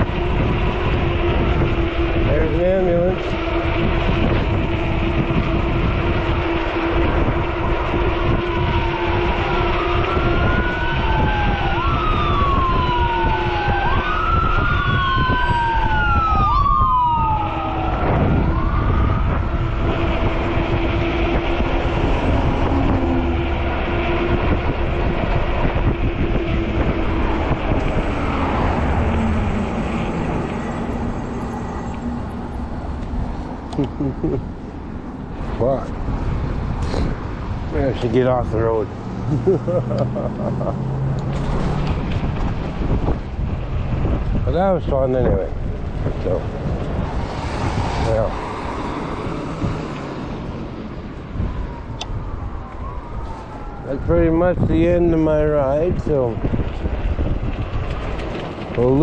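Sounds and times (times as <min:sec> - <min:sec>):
ambulance siren wailing: 0:00.0 - 0:34.4, 0:37.4 - 0:59.0
wind noise on microphone: 0:00.0 - 0:59.0.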